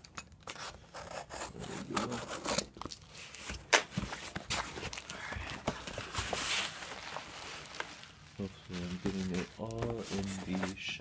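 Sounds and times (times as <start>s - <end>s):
cardboard tearing and rustling: 0.4s - 11.0s.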